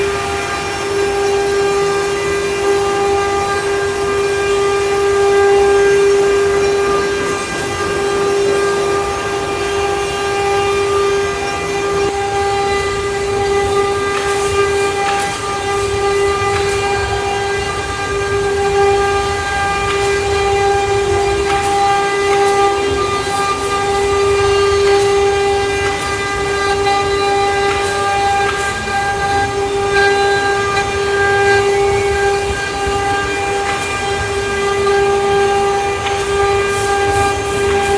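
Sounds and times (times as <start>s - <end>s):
router spindle whine: 0.0s - 37.9s
wood cutting noise: 0.0s - 37.9s.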